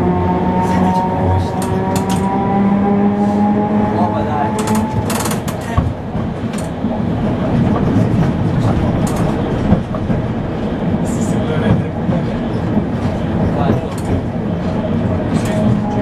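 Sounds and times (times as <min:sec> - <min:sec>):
tram wheels clattering on track: 0:00.0 - 0:02.5, 0:03.9 - 0:16.0
tram motors whining: 0:00.0 - 0:16.0.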